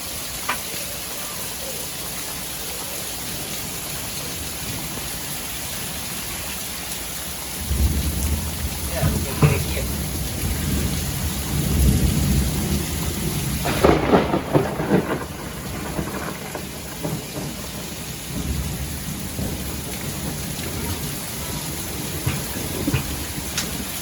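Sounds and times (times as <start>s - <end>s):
steady rain: 0.0s - 24.0s
thunder rumbling: 2.0s - 24.0s
crackling thunder peal: 3.2s - 6.2s, 7.6s - 24.0s.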